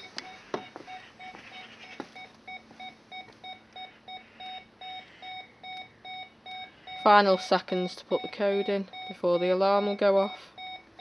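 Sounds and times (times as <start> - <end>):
alarm panel beeping: 0.0 - 11.0.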